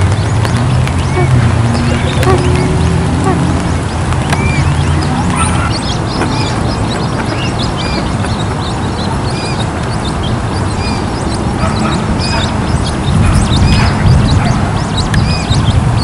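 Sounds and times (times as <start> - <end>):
bird chicks peeping: 0.0 - 16.0
steady low rumble: 0.0 - 16.0.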